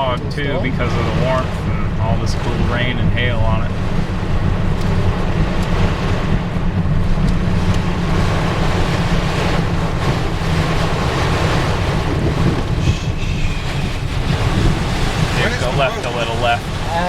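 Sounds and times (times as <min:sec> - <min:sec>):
heavy rain on a car: 0:00.0 - 0:17.0
road noise rumble: 0:00.0 - 0:17.0
wind buffeting microphone: 0:00.0 - 0:17.0.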